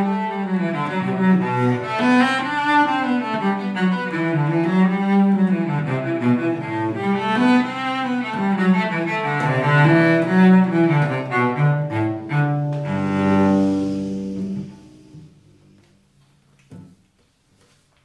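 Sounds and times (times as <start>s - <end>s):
solo cello played with bow: 0.0s - 15.9s.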